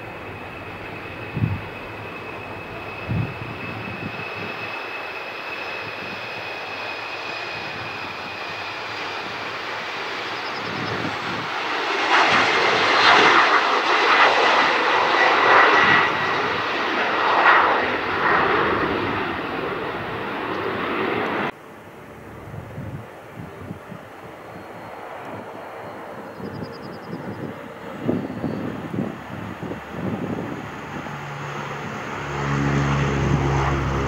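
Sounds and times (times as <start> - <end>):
jet engines at takeoff: 0.0 - 34.0.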